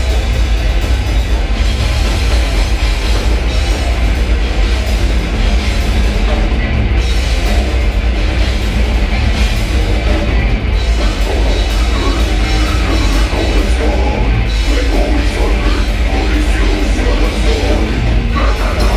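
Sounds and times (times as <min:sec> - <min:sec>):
drum kit: 0:00.0 - 0:18.9
heavy rock band playing live: 0:00.0 - 0:18.9.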